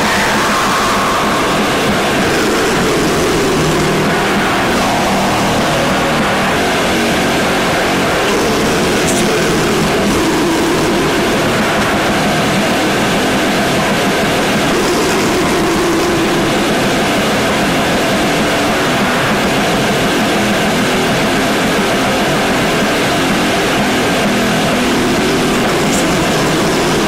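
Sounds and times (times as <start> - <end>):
distorted black metal noise: 0.0 - 27.0.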